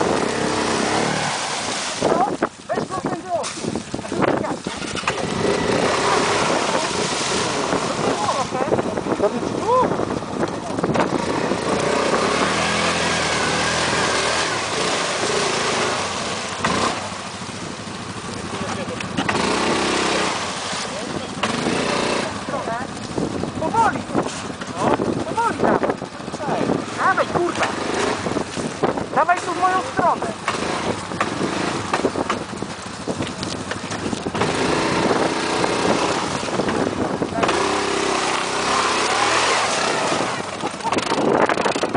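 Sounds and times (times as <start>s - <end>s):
quad engine running: 0.0s - 41.9s.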